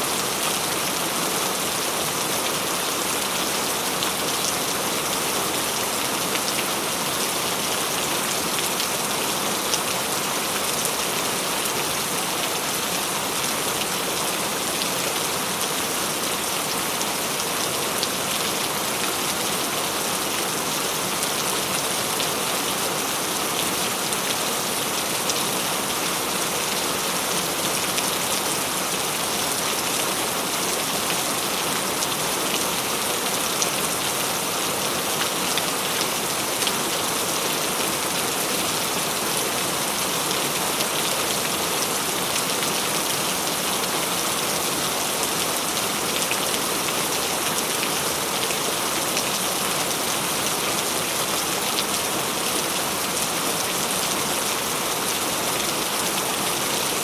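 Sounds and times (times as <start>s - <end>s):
rain pattering on a surface: 0.2s - 57.0s.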